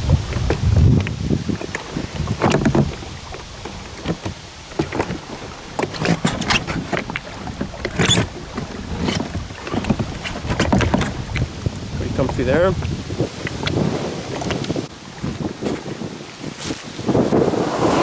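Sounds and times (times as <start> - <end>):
knocks and rubbing on plastic kayak: 0.0 - 17.6.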